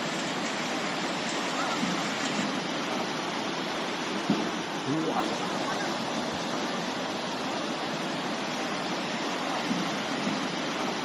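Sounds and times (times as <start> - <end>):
river floodwater rushing: 0.0 - 11.0.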